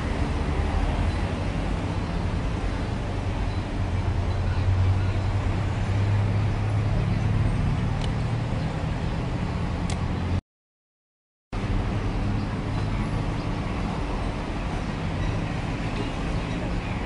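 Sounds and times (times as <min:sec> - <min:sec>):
street traffic rumble: 0:00.0 - 0:10.4, 0:11.6 - 0:17.0.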